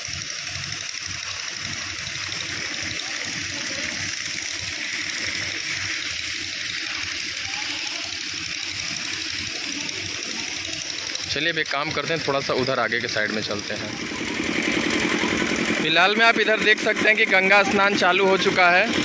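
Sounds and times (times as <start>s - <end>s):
pressure hose spraying water: 0.0s - 19.0s.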